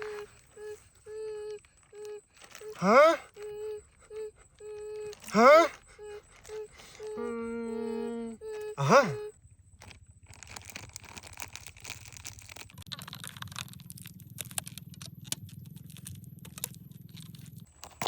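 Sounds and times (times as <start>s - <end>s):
crunching and crackling handling noise: 0.0s - 7.8s, 9.7s - 18.0s
low steady hum: 0.0s - 18.0s.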